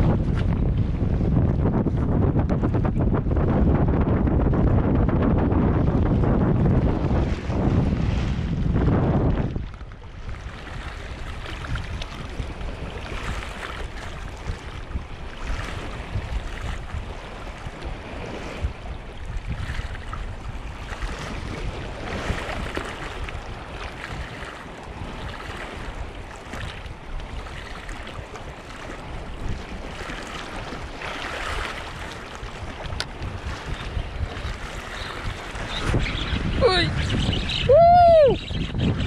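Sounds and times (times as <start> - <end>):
sea waves washing against rocks: 0.0 - 38.4
wind rumbling on microphone: 0.0 - 39.0.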